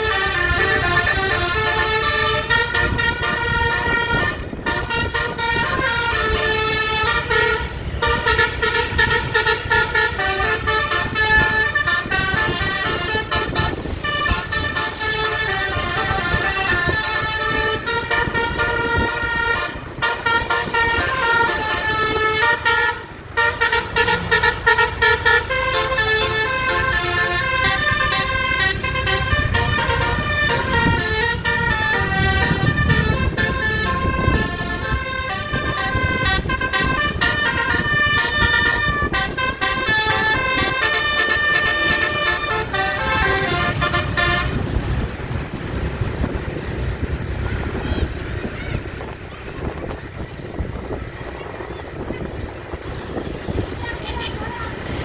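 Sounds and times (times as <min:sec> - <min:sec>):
multi-trumpet bus horn melody: 0:00.0 - 0:55.0.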